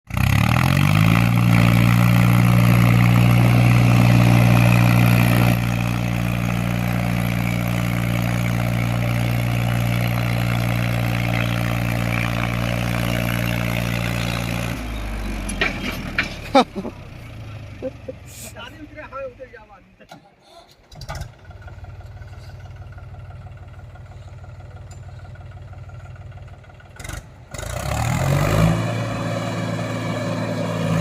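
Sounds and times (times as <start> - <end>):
tractor diesel engine running: 0.1 - 31.0.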